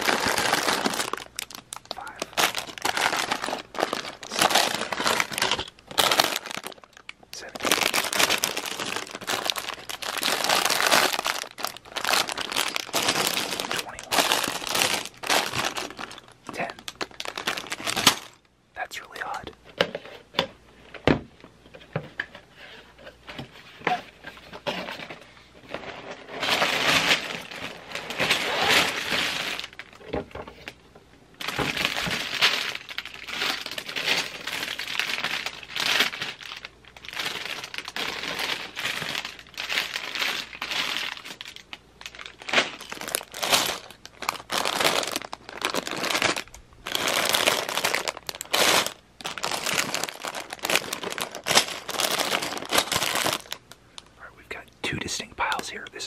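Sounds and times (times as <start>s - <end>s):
plastic bags crinkling: 0.0s - 18.5s, 23.8s - 30.8s, 31.4s - 56.0s.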